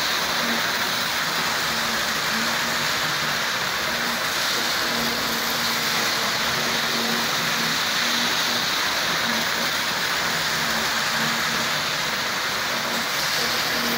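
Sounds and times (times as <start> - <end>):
model train wheels on rails: 0.0 - 13.9.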